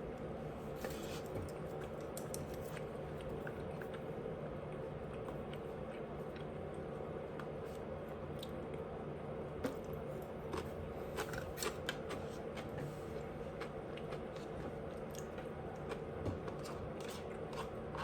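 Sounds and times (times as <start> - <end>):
person chewing food: 0.8 - 8.9, 9.6 - 18.0.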